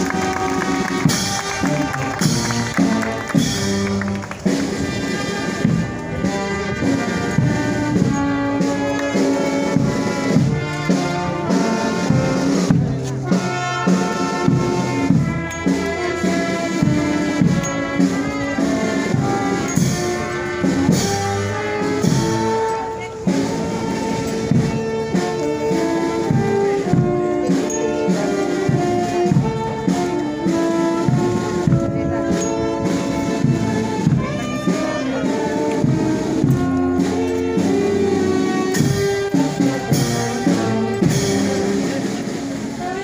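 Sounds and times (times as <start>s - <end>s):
trumpets and trombones melody: 0.0s - 43.0s.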